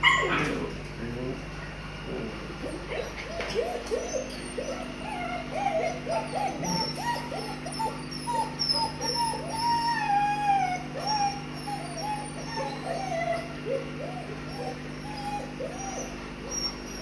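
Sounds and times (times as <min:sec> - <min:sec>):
puppies whining and whimpering: 0:00.0 - 0:00.8, 0:02.0 - 0:17.0.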